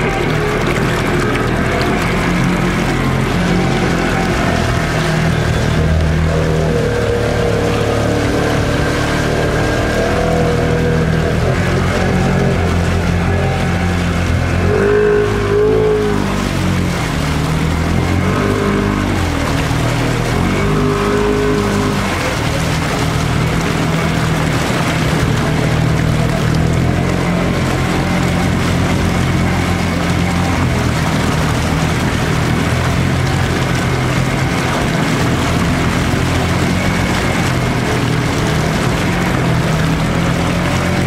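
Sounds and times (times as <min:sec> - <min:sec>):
engine running under load: 0:00.0 - 0:41.0
water rushing bow wave: 0:00.0 - 0:41.0.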